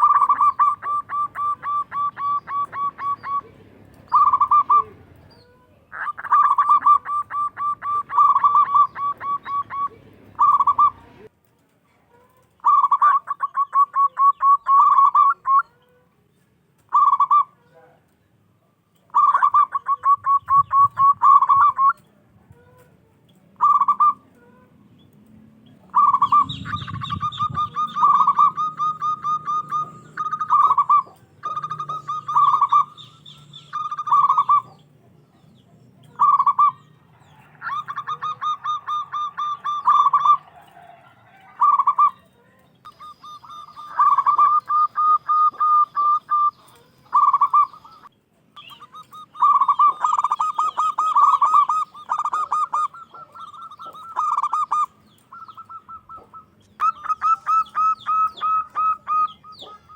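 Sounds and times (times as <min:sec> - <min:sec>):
dove cooing: 0:00.0 - 0:11.3, 0:12.2 - 0:16.1, 0:16.8 - 0:17.9, 0:19.0 - 0:24.8, 0:25.7 - 0:59.9.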